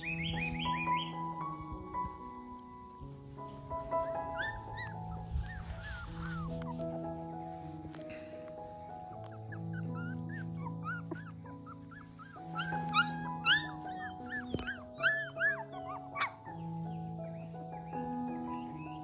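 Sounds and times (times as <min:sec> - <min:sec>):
puppies whimpering and yipping: 0:00.0 - 0:02.8, 0:03.6 - 0:08.0, 0:08.7 - 0:17.1
background music with held notes: 0:00.0 - 0:19.0.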